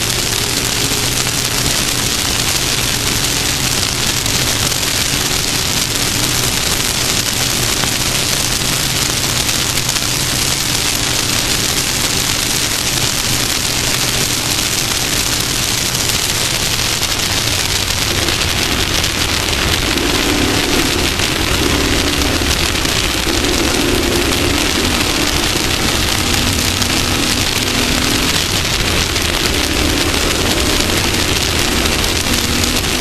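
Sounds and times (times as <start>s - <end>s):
faint engine drone: 0.0s - 33.0s
rush of wind and dirt: 0.0s - 33.0s.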